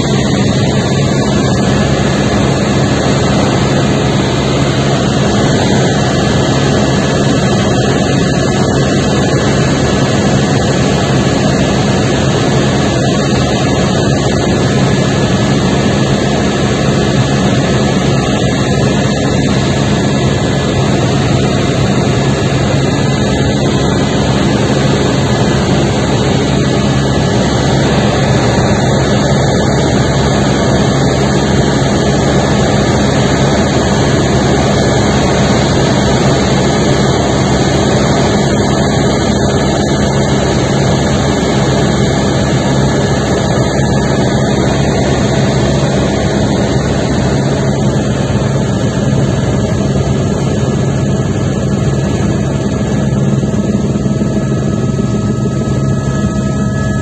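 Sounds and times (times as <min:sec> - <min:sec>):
helicopter turbine and rotor drone: 0:00.0 - 0:57.0.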